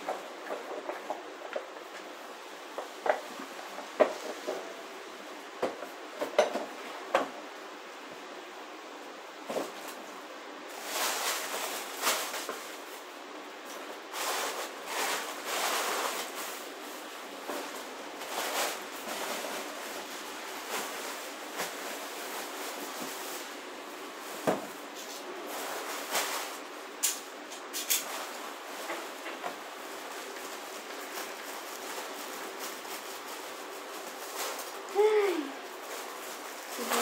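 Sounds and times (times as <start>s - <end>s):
rubbing and rustling of handling: 0.0s - 37.0s.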